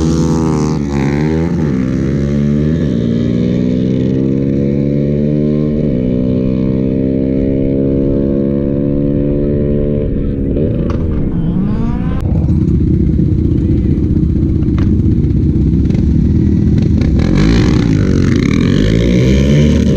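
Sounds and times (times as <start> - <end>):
motorcycle engine at full throttle: 0.0 - 19.9.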